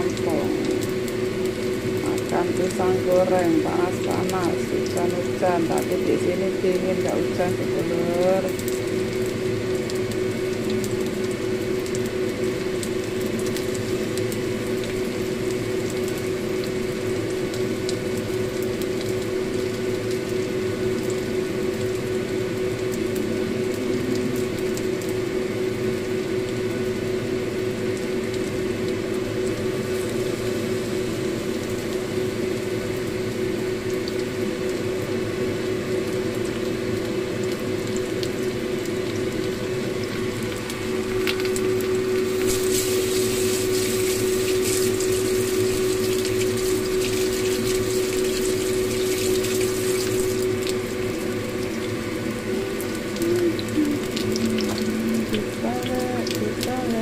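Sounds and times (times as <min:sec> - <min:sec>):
food sizzling in hot oil: 0:00.0 - 0:57.0
steady hum: 0:00.0 - 0:57.0.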